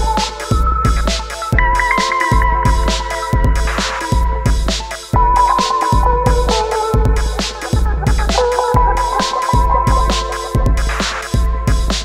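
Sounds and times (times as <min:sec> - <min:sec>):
deep bass thumps: 0:00.0 - 0:12.0
electronic music with steady beat: 0:00.0 - 0:12.0
held synth melody: 0:00.0 - 0:12.0.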